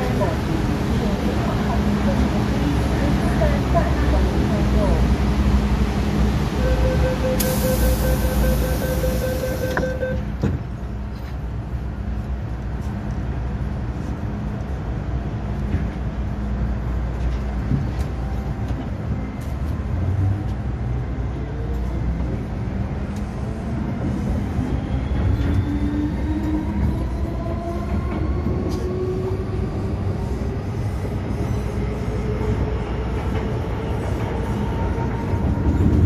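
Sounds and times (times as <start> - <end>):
wheels rumbling on rails: 0.0 - 36.0.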